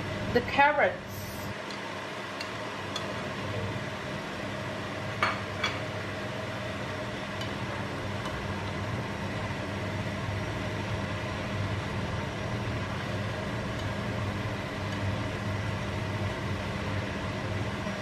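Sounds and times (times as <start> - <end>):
vegetables sizzling in a frying pan: 0.0 - 17.4
steady low hum: 0.0 - 18.0.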